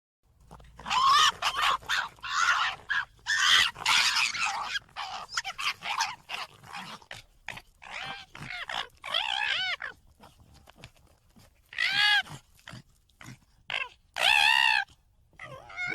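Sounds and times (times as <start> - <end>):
fox harsh hoarse calls: 0.5 - 11.0, 11.6 - 15.9.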